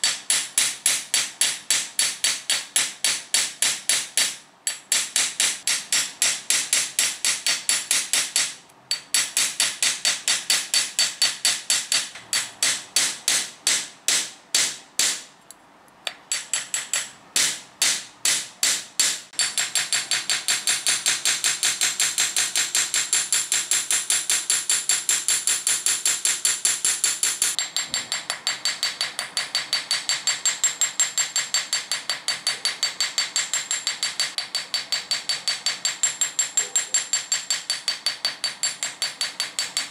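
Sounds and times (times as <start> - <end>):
hammer striking wire on anvil: 0.0 - 15.3, 16.1 - 39.9.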